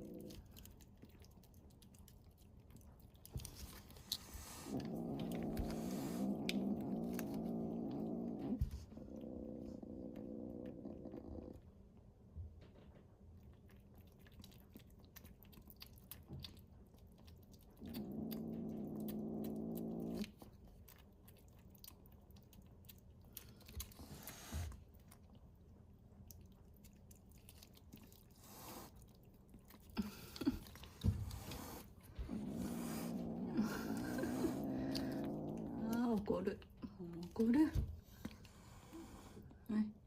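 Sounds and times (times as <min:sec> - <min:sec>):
kitten growling: 0:00.0 - 0:12.0, 0:14.0 - 0:22.1, 0:22.9 - 0:24.8, 0:27.5 - 0:39.7
kitten chewing and crunching food: 0:00.0 - 0:39.7.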